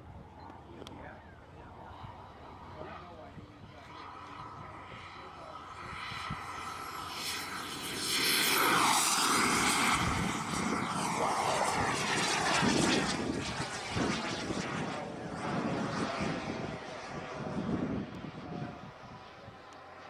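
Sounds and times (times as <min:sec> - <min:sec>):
model jet turbine whining: 0:00.6 - 0:20.0.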